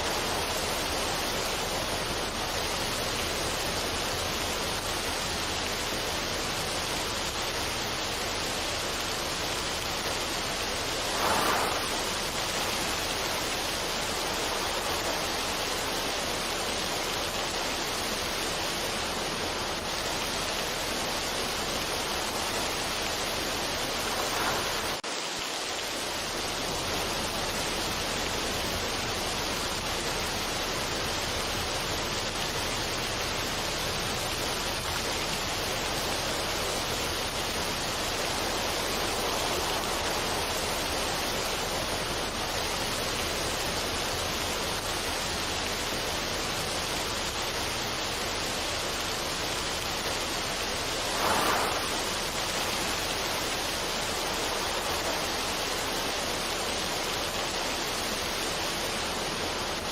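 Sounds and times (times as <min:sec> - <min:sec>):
steady rushing noise: 0:00.0 - 0:31.8, 0:32.7 - 0:45.0, 0:46.4 - 0:59.9.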